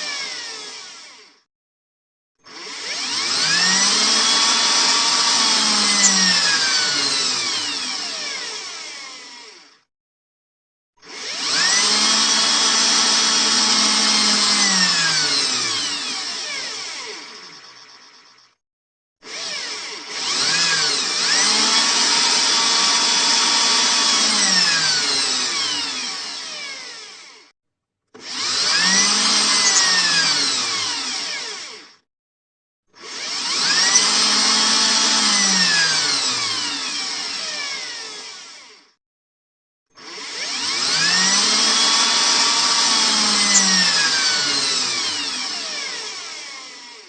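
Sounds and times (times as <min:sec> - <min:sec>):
electric drill motor: 0:00.0 - 0:01.5, 0:02.4 - 0:09.9, 0:11.0 - 0:18.6, 0:19.2 - 0:27.5, 0:28.1 - 0:32.0, 0:32.9 - 0:39.0, 0:40.0 - 0:47.0.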